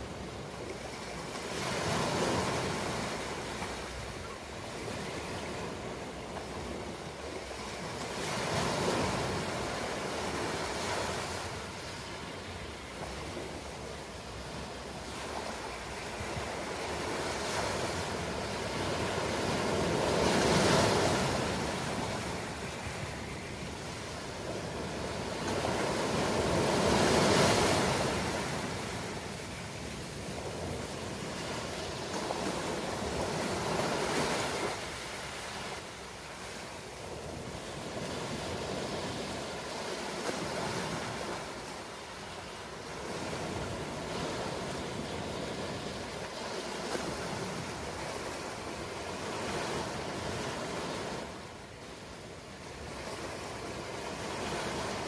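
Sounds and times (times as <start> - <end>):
surf hiss: 0.0 - 55.0
waves breaking: 0.0 - 55.0.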